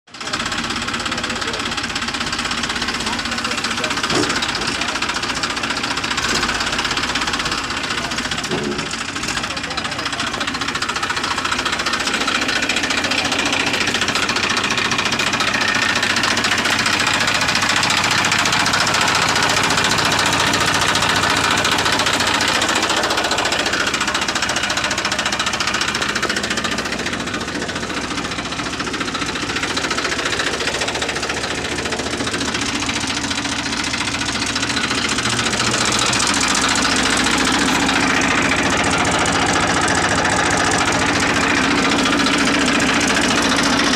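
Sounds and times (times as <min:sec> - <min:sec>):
tractor diesel engine knocking: 0:00.1 - 0:43.9.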